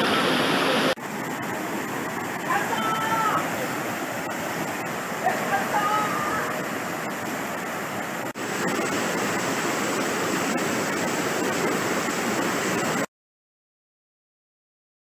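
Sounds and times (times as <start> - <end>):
floodwater rushing: 0.0 - 13.1.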